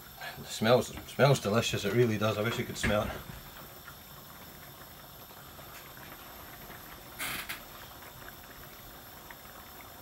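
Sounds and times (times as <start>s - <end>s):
curry bubbling in a pan: 0.0s - 10.0s.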